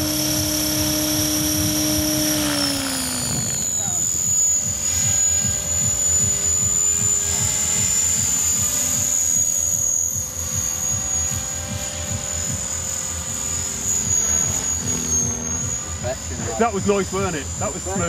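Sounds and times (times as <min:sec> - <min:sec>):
model helicopter whine: 0:00.0 - 0:18.0
rotor pulsing: 0:00.0 - 0:18.0.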